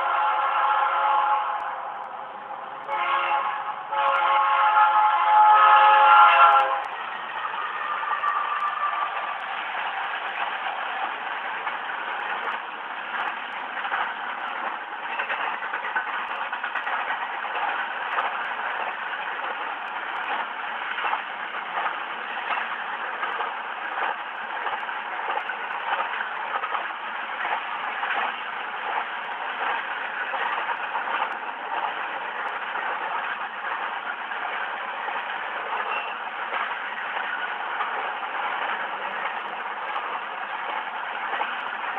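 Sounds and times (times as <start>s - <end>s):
train wheels on rails: 0.0s - 41.9s
train clicks and clanks: 2.8s - 41.9s.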